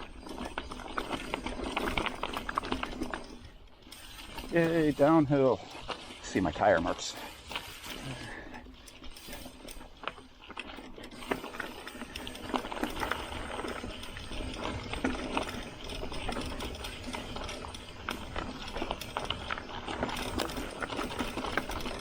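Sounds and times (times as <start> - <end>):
freewheeling bike hub ticking: 0.0 - 22.0
tyres on dirt and gravel: 0.0 - 22.0.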